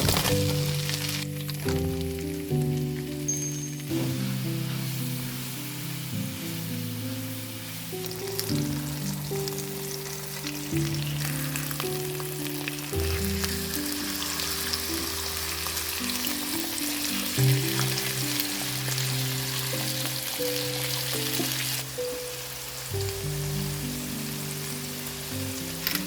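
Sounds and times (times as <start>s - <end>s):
background music: 0.0s - 26.0s
food sizzling in a skillet: 0.2s - 26.0s.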